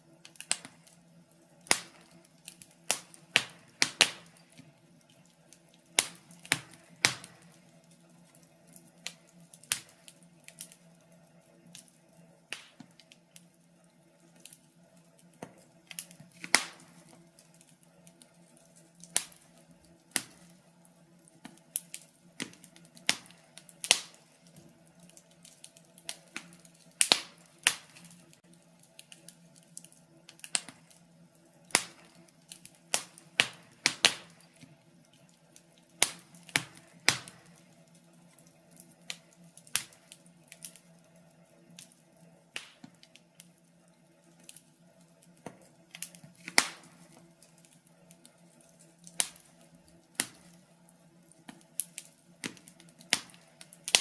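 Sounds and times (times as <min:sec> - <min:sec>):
faint steady hum: 0:00.0 - 0:54.0
wood fire crackling: 0:00.0 - 0:54.0.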